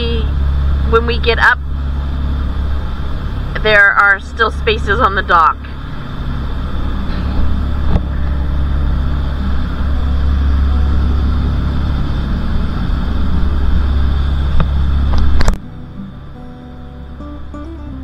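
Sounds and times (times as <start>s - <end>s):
boat engines rumbling: 0.0s - 18.0s.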